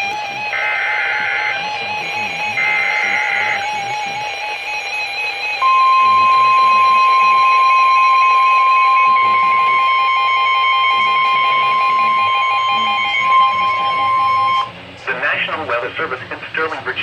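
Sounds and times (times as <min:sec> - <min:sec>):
steady alarm tone: 0:00.0 - 0:14.8.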